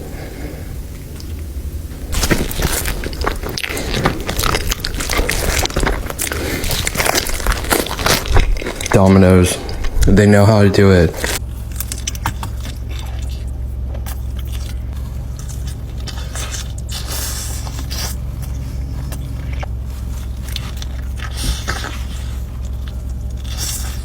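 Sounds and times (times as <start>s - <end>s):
steady low hum: 0.0s - 24.0s
pizza crust crunching: 2.0s - 24.0s.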